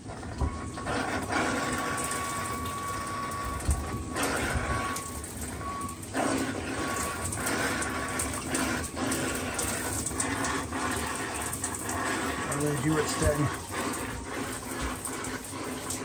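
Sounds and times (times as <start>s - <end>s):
shower spraying into a tub: 0.0s - 16.0s.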